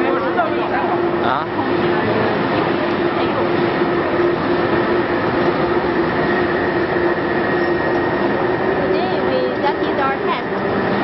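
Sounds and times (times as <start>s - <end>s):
loud steady mechanical drone: 0.0s - 11.0s.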